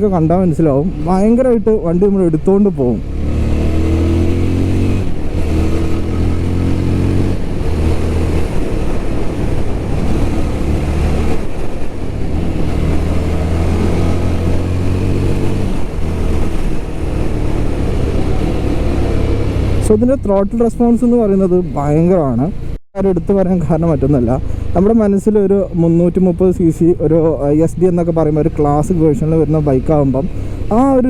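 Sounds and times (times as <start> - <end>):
motorcycle engine accelerating: 0.6 - 31.0.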